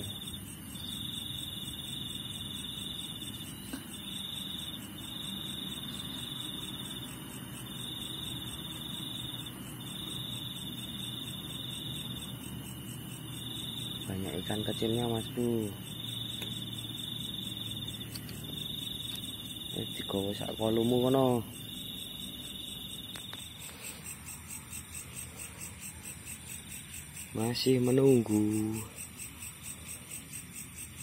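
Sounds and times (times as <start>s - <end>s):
insects trilling: 0.0s - 31.0s
low background hiss: 0.0s - 31.0s.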